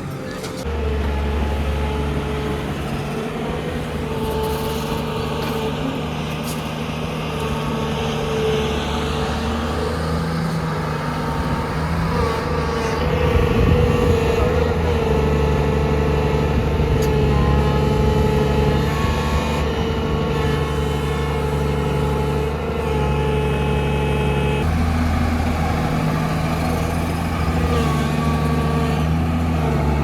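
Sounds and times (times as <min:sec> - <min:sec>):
diesel engine under load: 0:00.0 - 0:30.0.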